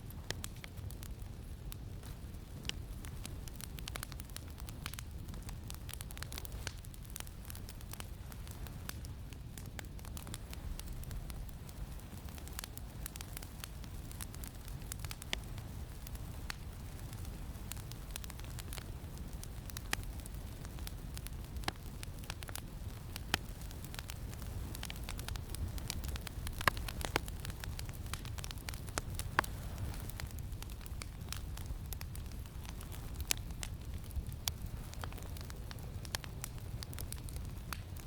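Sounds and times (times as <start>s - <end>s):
campfire crackling and popping: 0.0s - 38.0s
low rumble of wind: 0.0s - 38.0s.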